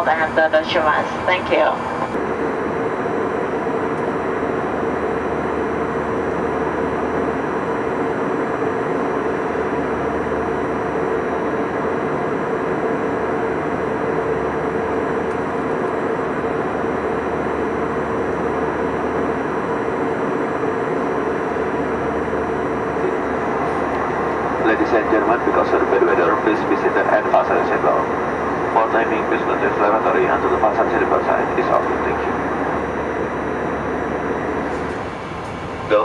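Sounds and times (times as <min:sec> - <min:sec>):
airplane cabin engine rush: 0:00.0 - 0:36.0
constant hum: 0:00.0 - 0:36.0.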